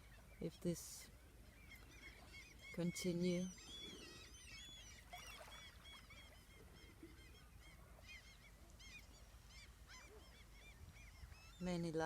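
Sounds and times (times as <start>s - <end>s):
flock of birds chirping: 0.0s - 12.0s.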